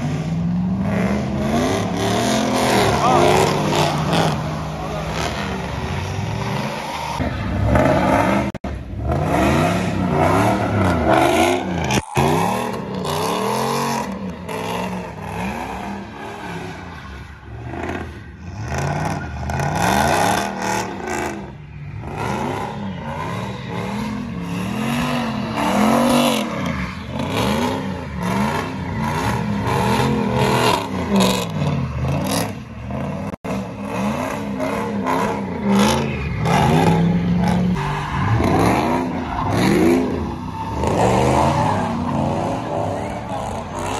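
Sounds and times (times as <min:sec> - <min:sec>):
truck engines revving: 0:00.0 - 0:43.9
tyres squealing on asphalt: 0:01.2 - 0:43.9.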